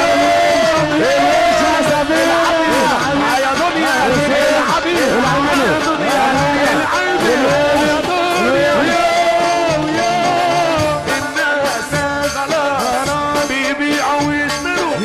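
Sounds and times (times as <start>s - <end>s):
percussion beat: 0.0s - 15.0s.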